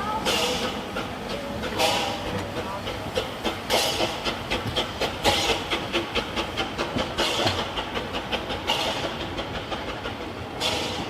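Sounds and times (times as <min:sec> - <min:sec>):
steam hissing: 0:00.0 - 0:11.0
train wheels clicking on track: 0:00.0 - 0:11.0.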